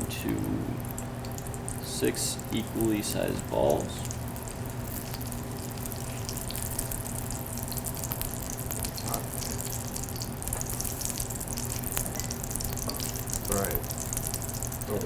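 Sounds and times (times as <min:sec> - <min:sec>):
low steady hum: 0:00.0 - 0:15.0
oil sizzling in a frying pan: 0:00.4 - 0:15.0.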